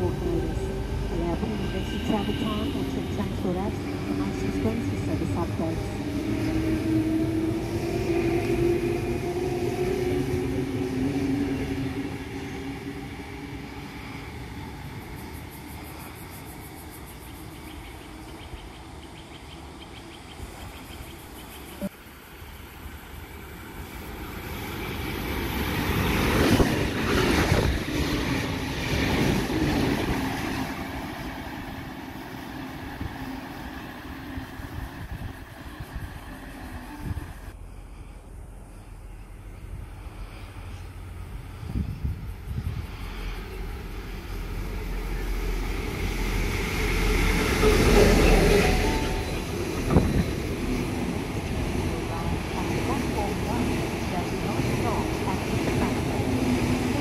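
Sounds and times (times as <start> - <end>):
train wheels rumbling on rail: 0.0 - 37.6, 39.0 - 57.0.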